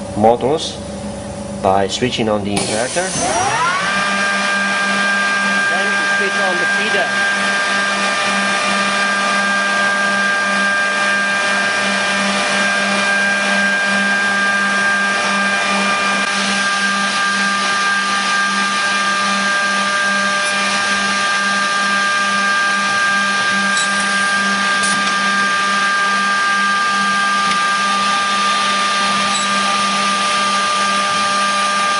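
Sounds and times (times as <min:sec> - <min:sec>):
machine motor hum and whine: 0:02.5 - 0:31.9.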